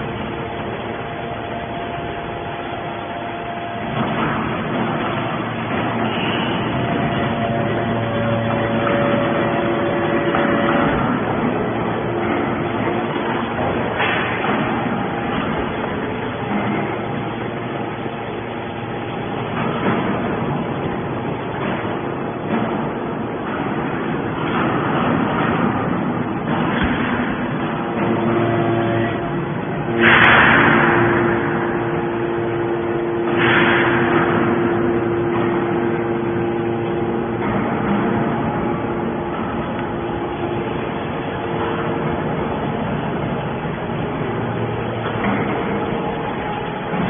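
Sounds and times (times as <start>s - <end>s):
hydraulic baler motor drone: 0.0s - 47.0s.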